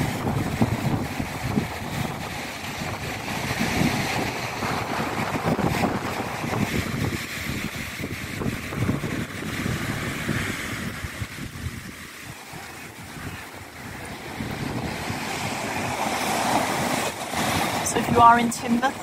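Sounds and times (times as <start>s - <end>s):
waves breaking on shingle: 0.0s - 19.0s
wind buffeting microphone: 0.0s - 19.0s.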